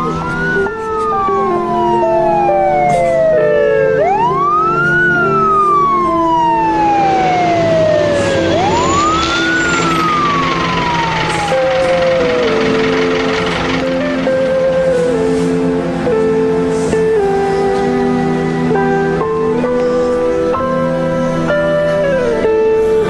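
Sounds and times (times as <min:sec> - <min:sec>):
ambulance siren wailing: 0:00.0 - 0:23.0
soft background music: 0:00.0 - 0:23.0.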